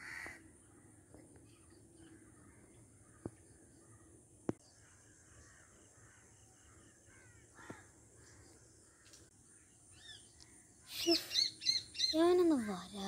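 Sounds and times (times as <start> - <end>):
faint bird calls: 0.0 - 12.4.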